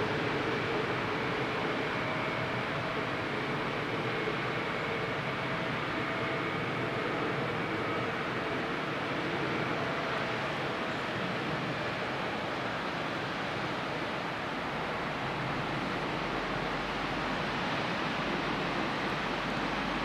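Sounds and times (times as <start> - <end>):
faint motor whine: 0.0 - 20.0.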